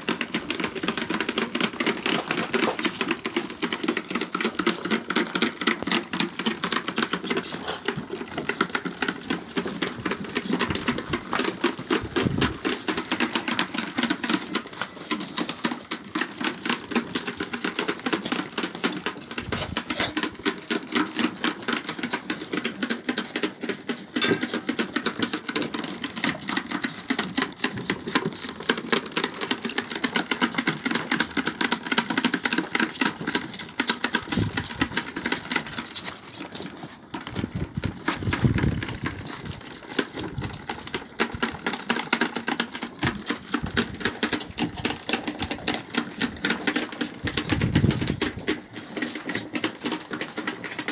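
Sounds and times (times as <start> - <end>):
lambs sucking milk from teats: 0.0 - 50.9.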